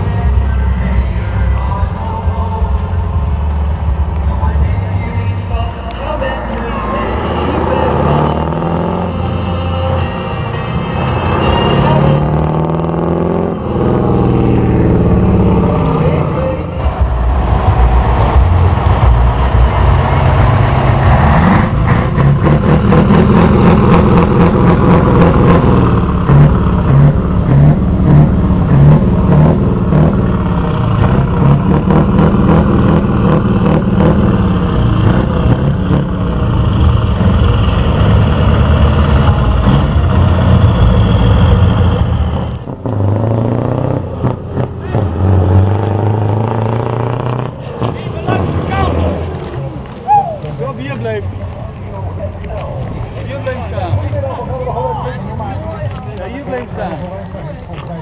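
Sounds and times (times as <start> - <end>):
distant truck engine: 0.0 - 58.0
truck engines revving: 0.0 - 58.0.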